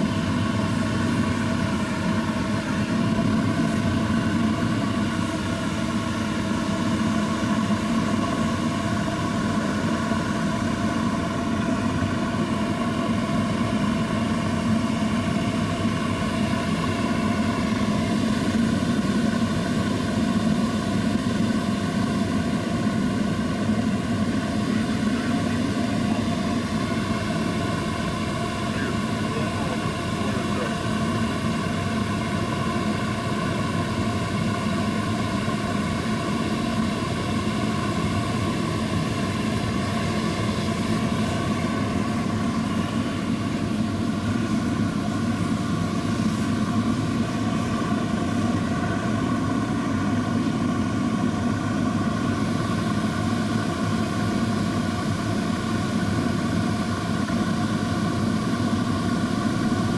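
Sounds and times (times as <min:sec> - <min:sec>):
furnace burner roar: 0:00.0 - 0:59.9.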